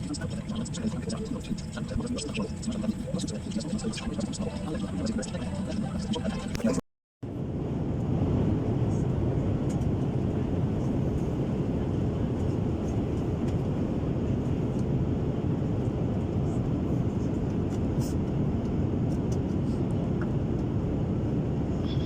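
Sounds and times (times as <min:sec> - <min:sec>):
airliner cabin engine roar: 0:00.0 - 0:22.0.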